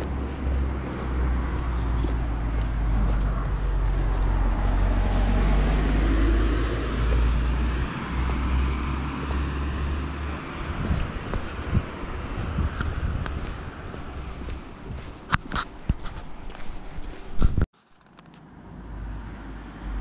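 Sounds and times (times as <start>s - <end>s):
wind on microphone: 0.0s - 17.7s
rolling travel noise: 0.0s - 18.3s.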